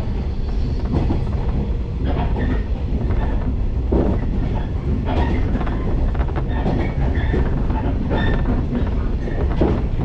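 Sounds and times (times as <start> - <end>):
train wheels rumbling on rail: 0.0 - 10.0
train wheel clacks: 0.5 - 10.0.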